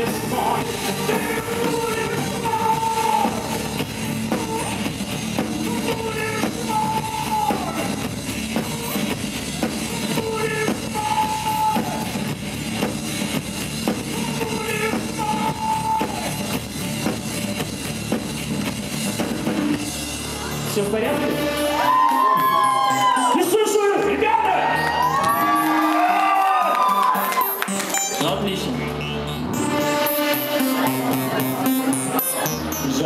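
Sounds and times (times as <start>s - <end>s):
drum kit beat: 0.0s - 24.2s, 29.6s - 33.0s
rock band playing: 0.0s - 33.0s.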